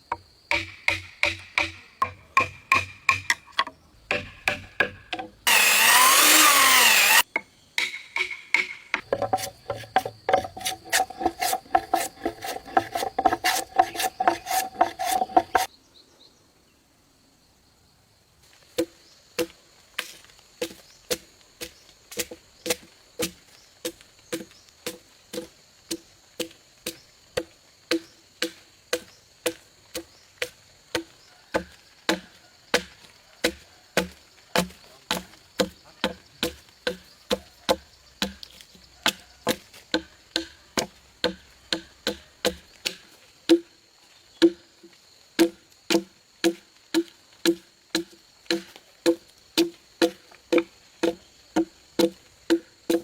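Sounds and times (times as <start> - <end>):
hand tool chopping wood: 0.5 - 3.5, 4.1 - 7.2, 7.8 - 15.7, 18.8 - 43.7, 45.4 - 53.0.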